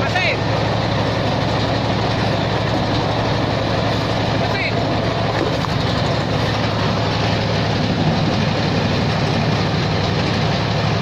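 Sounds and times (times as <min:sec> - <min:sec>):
waste shredder machine droning: 0:00.0 - 0:11.0.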